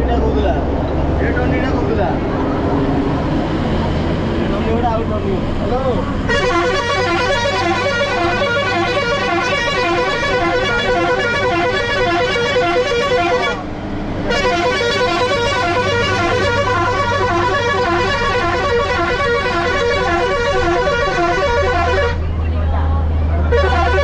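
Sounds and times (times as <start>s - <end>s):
bus engine hum: 0.0s - 24.0s.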